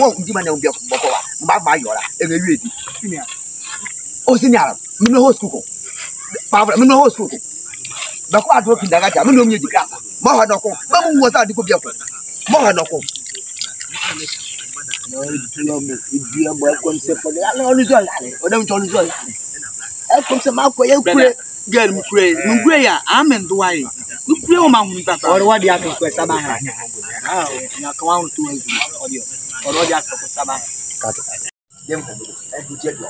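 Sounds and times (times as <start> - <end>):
men talking: 0.0 - 33.0
night insects chirring: 0.0 - 33.0.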